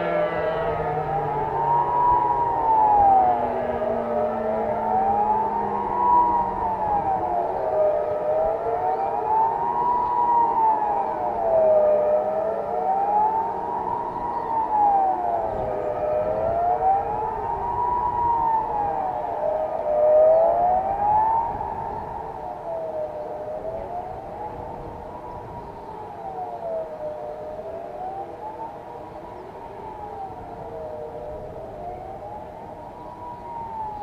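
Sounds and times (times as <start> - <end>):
wailing sirens: 0.0 - 34.0.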